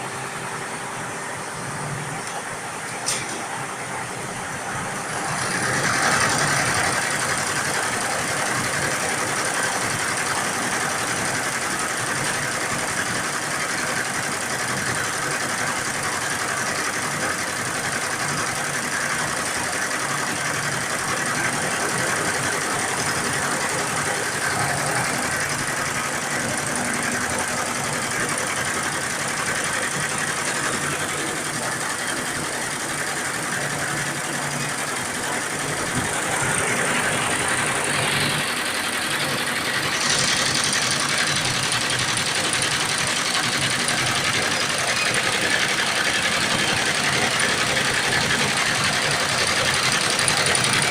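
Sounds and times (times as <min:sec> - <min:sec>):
embroidery machine stitching: 0:05.2 - 0:50.9.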